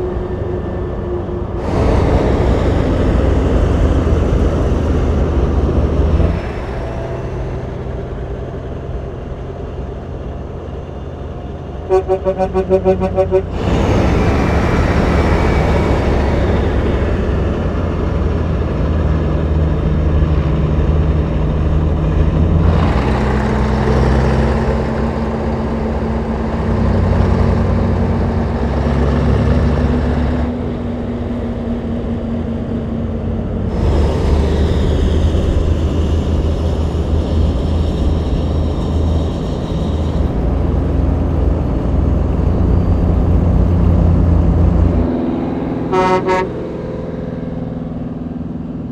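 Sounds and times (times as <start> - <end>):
truck engine drone: 0.0 - 48.9.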